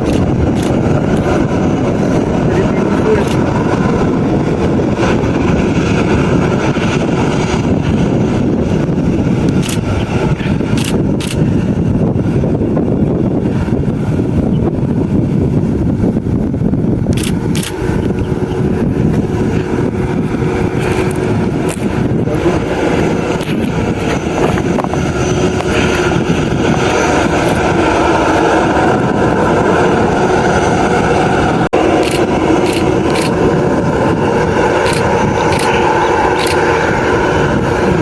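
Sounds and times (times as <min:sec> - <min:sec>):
jet aircraft engine noise: 0:00.0 - 0:38.0.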